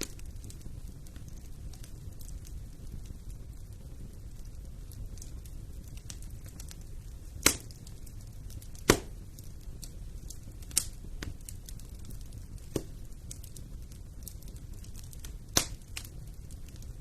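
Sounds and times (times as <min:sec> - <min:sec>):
fire crackling: 0:00.0 - 0:17.0
loud pops from fire: 0:00.0 - 0:17.0
low rumble of flames: 0:00.0 - 0:17.0.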